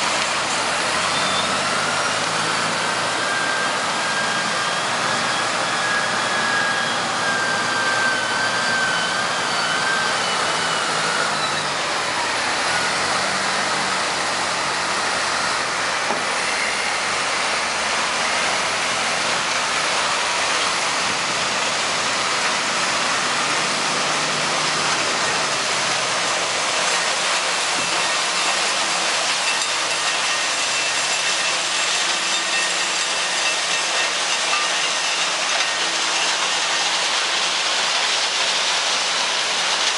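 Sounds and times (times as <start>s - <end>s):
sawmill machinery hiss: 0.0s - 39.9s
wheel loader engine whine: 0.0s - 39.9s.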